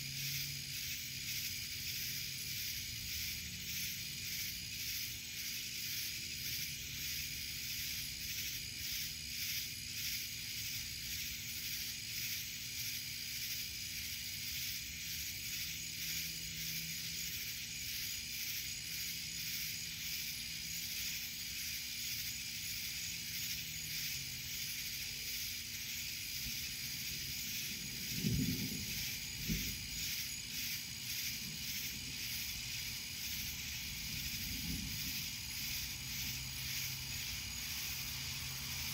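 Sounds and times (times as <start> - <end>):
night insect chorus buzzing: 0.0 - 38.9.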